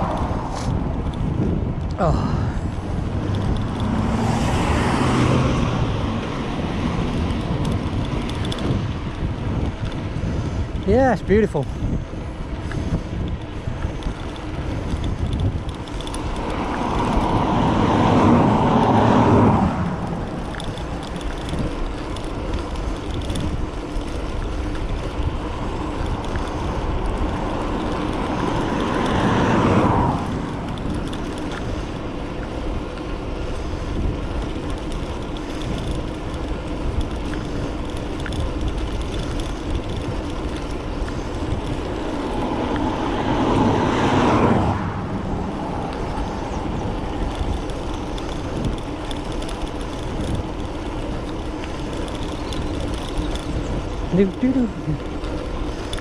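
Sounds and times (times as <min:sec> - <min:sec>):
motor vehicles passing: 0:00.0 - 0:56.0
wind rumble on microphone: 0:00.0 - 0:56.0.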